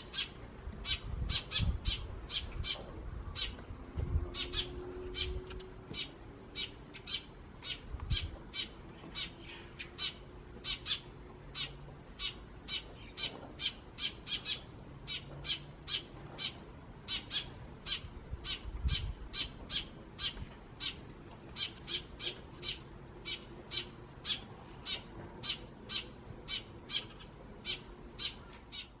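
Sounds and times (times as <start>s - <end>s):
sparrows chirping: 0.0s - 29.0s.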